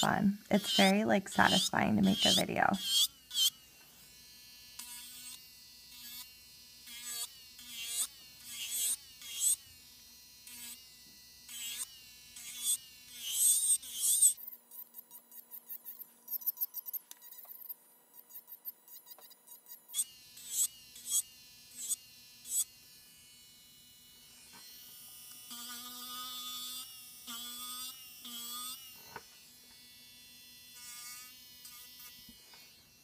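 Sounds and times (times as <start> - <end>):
electric nail file whine: 0.0 - 33.0.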